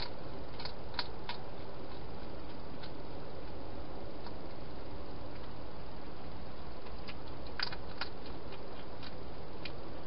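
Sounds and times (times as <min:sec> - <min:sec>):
hedgehog chewing food: 0:00.0 - 0:10.0
microphone hiss: 0:00.0 - 0:10.0.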